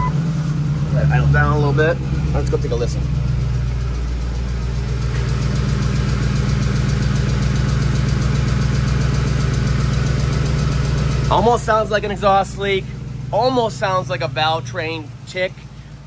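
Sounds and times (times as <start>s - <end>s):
engine idling with ticking: 0.0s - 16.0s.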